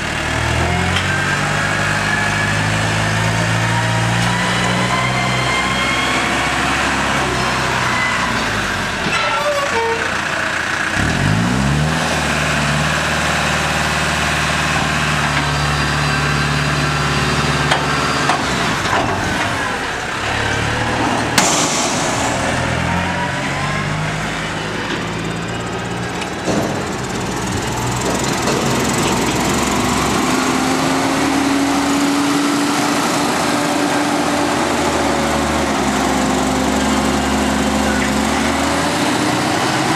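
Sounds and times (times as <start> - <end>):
diesel tractor engines running: 0.0 - 39.9.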